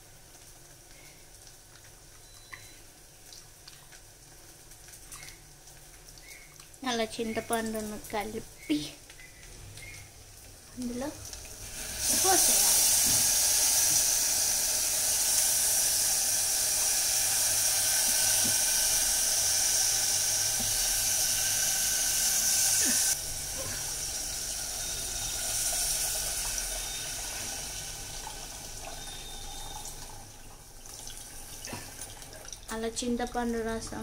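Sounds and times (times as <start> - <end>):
curry simmering in a pot: 0.0 - 34.0.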